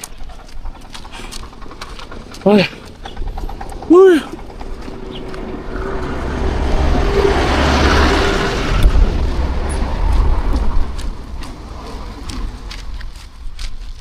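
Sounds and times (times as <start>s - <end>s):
low rumble: 0.0s - 14.0s
road vehicle passing: 0.0s - 14.0s.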